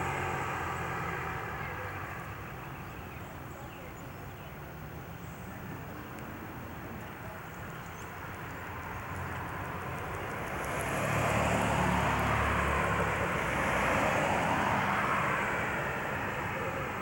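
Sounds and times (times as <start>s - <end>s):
motor vehicle engine rumble: 0.0s - 17.0s
road noise: 0.0s - 17.0s.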